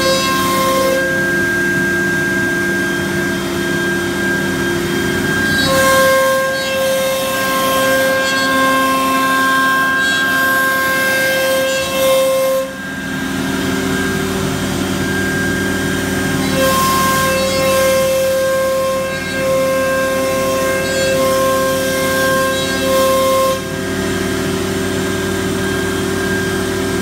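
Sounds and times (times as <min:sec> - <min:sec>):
cnc router cutting wood: 0:00.0 - 0:27.0.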